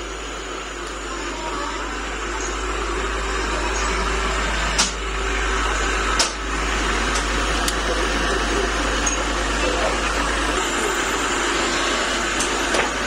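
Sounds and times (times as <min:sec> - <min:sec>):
machine tool whirring hum: 0:00.0 - 0:13.0.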